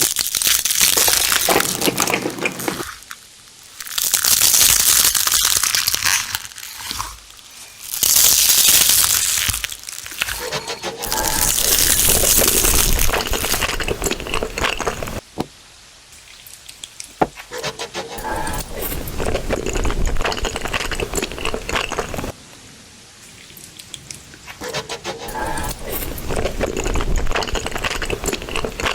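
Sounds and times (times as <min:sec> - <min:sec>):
crispy fried food being chewed: 0:00.0 - 0:15.2, 0:16.2 - 0:22.4, 0:23.3 - 0:28.9.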